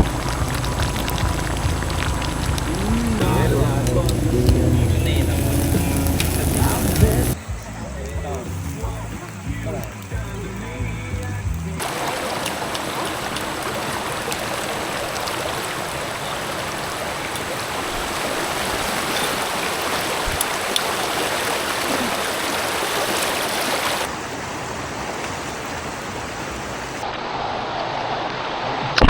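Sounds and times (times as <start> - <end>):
rushing stream water: 0.0 - 29.0.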